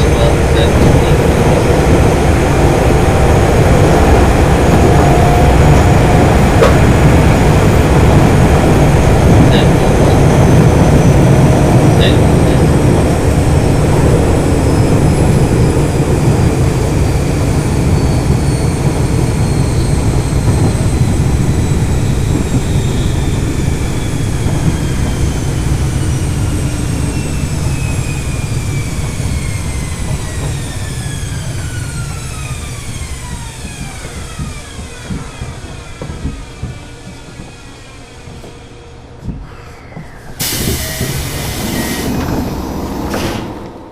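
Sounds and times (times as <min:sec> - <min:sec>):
subway train whining while braking: 0:00.0 - 0:43.9
wheels rumbling on rail: 0:00.0 - 0:43.9.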